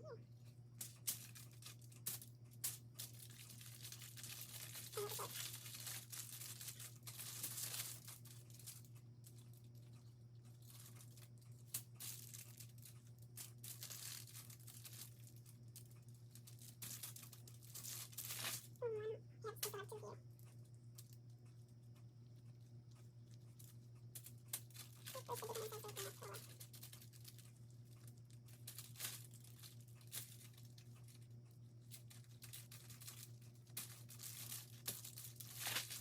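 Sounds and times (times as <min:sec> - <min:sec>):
aluminium foil crinkling: 0:00.0 - 0:18.8, 0:19.5 - 0:21.3, 0:22.6 - 0:36.0.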